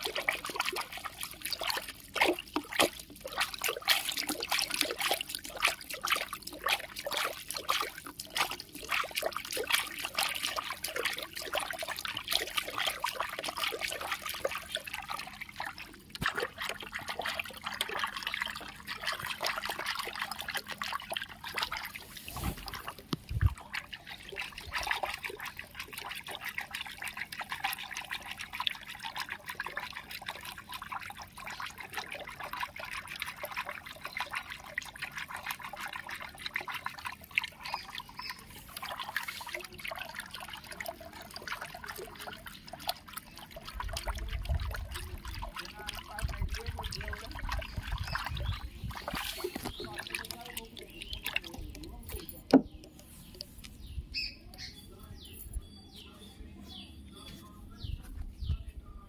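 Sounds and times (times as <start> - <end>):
water trickling and splashing: 0.0 - 55.4.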